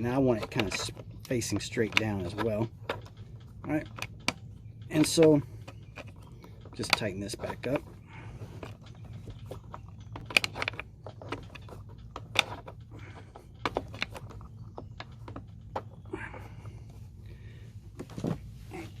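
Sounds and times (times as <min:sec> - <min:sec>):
hand tool and plastic clicks: 0:00.0 - 0:17.0.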